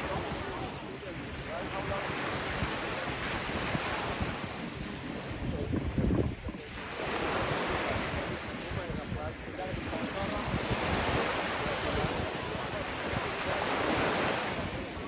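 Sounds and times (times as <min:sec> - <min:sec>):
surf breaking on a beach: 0:00.0 - 0:15.0
wind buffeting microphone: 0:00.0 - 0:15.0.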